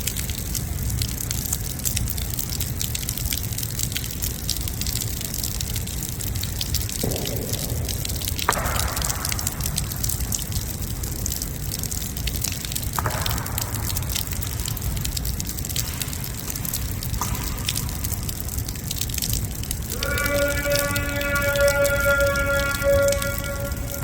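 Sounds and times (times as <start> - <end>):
torrential rain pouring: 0.0 - 24.0.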